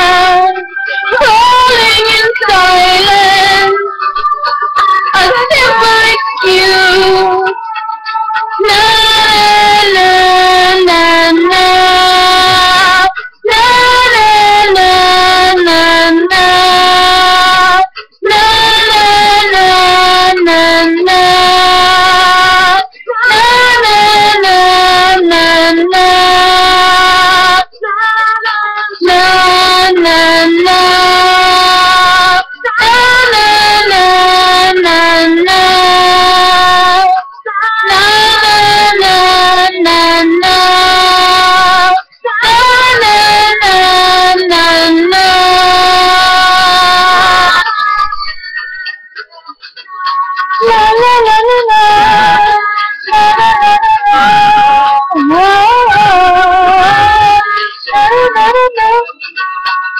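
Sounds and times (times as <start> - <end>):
woman singing solo: 0.0 - 49.0, 49.7 - 59.9.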